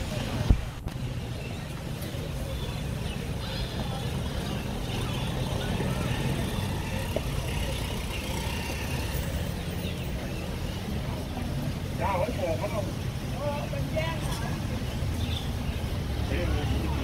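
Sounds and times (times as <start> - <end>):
faint voices: 0.0 - 17.0
road traffic rumble: 0.0 - 17.0.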